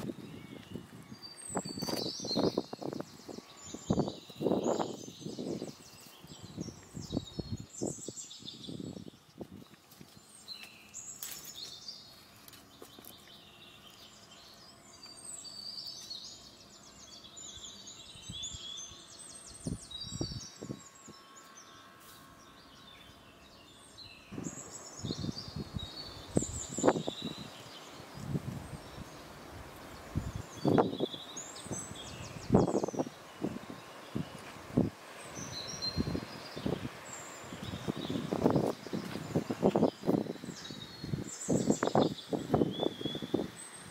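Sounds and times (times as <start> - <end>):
small birds singing and chirping: 0.0 - 43.9.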